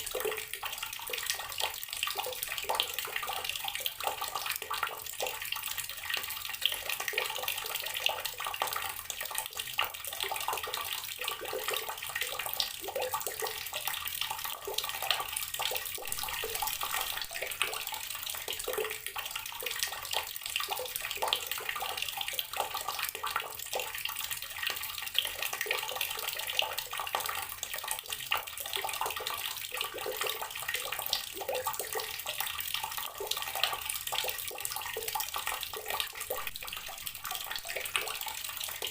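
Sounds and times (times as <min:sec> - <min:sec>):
water running from garden tap: 0:00.0 - 0:38.9.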